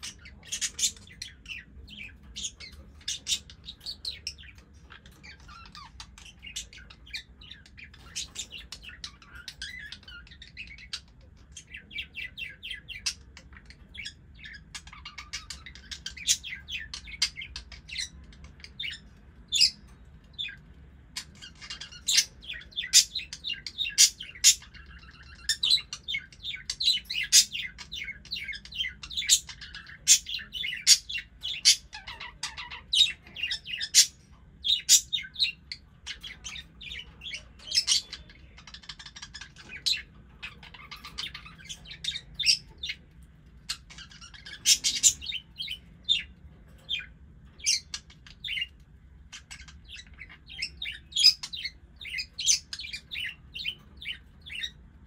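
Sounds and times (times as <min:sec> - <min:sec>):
budgies chirping: 0:00.0 - 0:55.0.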